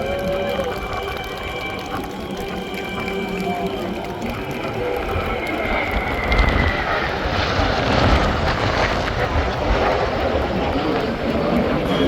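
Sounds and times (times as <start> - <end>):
jet engine whine: 0.0 - 12.0
jet noise: 0.0 - 12.0.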